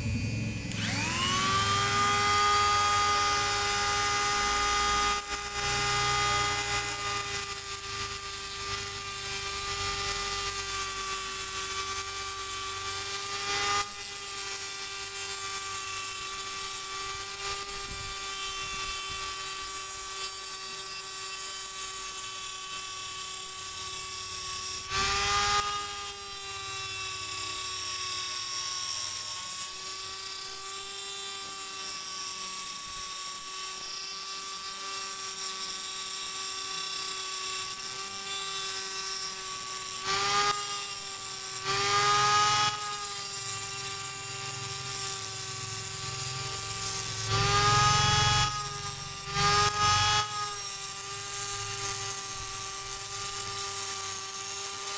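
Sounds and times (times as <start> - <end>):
disc grinding metal rod: 0.0 - 54.9
mini grinder whining: 0.0 - 54.9.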